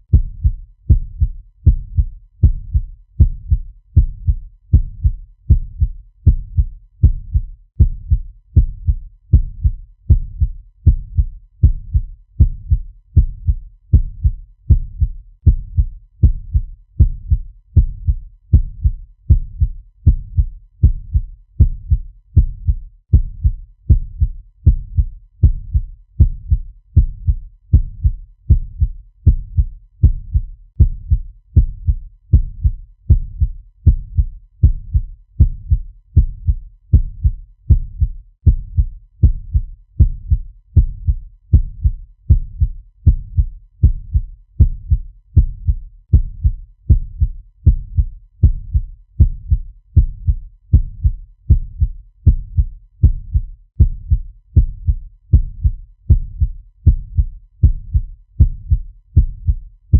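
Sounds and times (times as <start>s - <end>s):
fast heartbeat: 0.0s - 59.7s.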